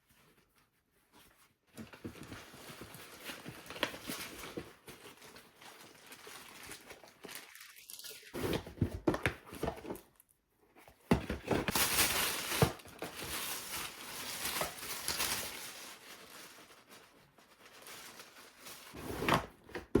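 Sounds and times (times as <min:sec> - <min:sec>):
packaging crinkling and rustling: 0:01.2 - 0:20.0.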